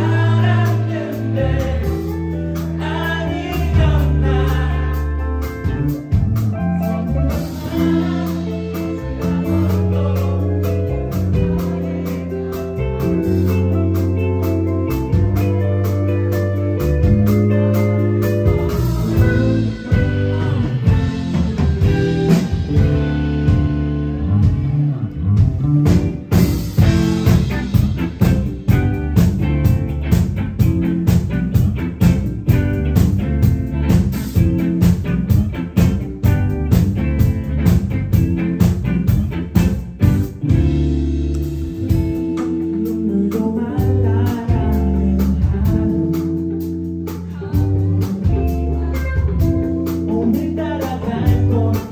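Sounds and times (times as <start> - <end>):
live rock band playing: 0.0 - 51.9
steady drum beat: 0.0 - 51.9.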